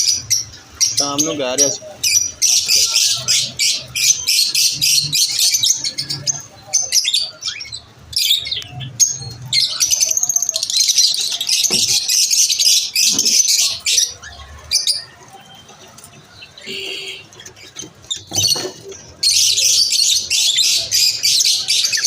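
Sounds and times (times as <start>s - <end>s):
lovebirds chirping and chattering: 0.0s - 22.0s.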